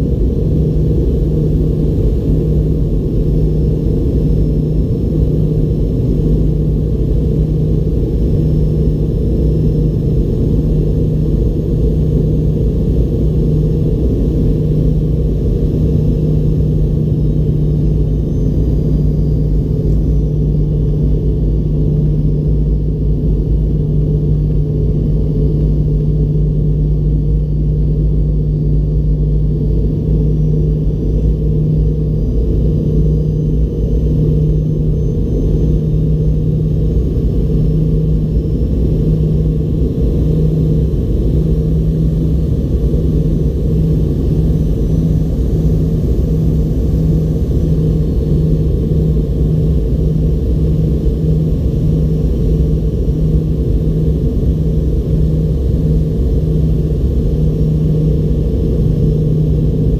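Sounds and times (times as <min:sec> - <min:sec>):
jet engine drone: 0:00.0 - 0:59.9
pulsing hum: 0:00.0 - 0:59.9.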